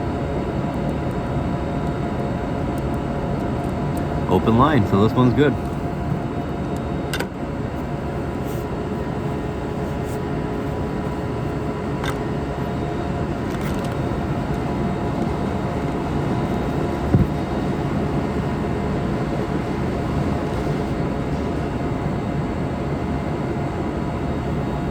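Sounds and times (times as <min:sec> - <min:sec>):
machine hum: 0:00.0 - 0:24.9.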